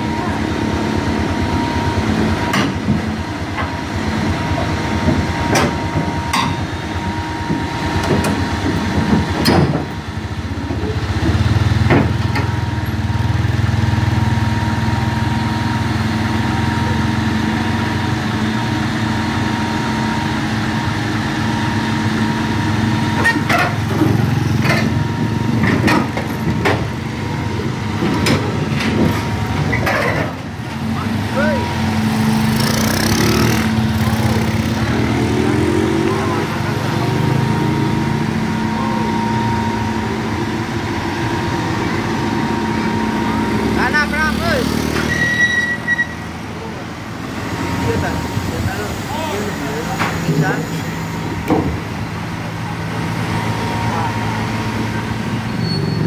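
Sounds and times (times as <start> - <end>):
steel tracks clanking: 0.0 - 15.3, 16.2 - 44.0, 44.7 - 56.0
excavator diesel engine running: 0.0 - 56.0.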